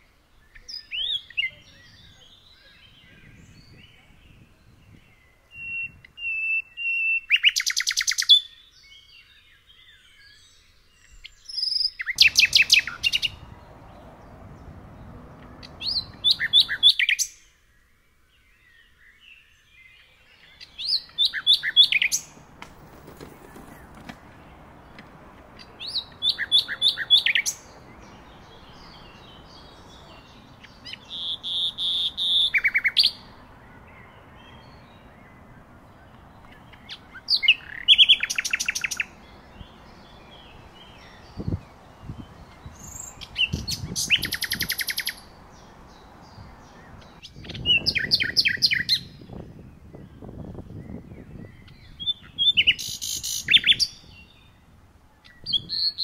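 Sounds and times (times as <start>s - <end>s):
faint background noise: 0.0s - 56.0s
songbird singing: 0.0s - 56.0s.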